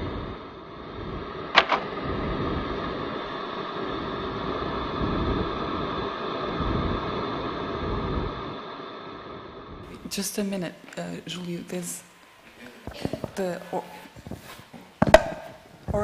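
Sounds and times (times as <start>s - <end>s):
room noise with low rumble: 0.0s - 16.0s.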